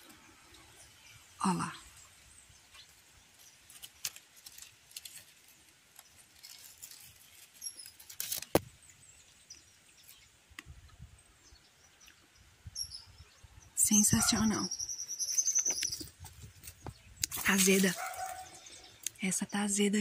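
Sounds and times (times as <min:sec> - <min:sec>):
leaves and twigs rustling: 0:00.0 - 0:10.9, 0:14.0 - 0:19.2.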